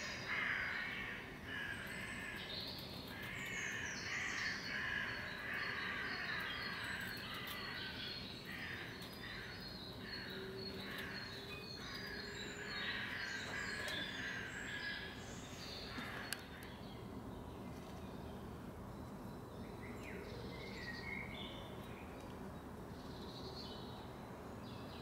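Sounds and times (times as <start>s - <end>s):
small birds chirping: 0.0s - 24.1s.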